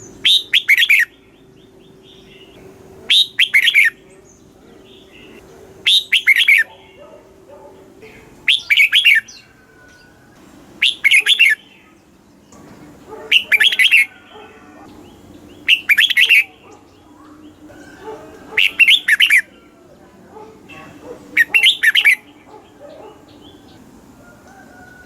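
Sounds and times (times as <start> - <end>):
bulbul singing: 0.0 - 25.0.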